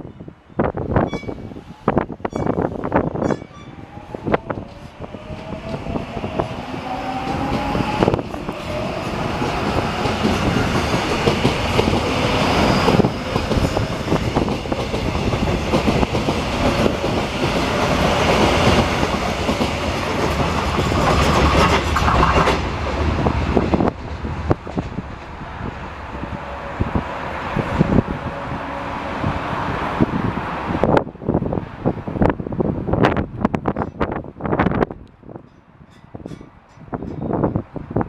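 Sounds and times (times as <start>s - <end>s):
train wheels rolling on rails: 0.6s - 31.6s.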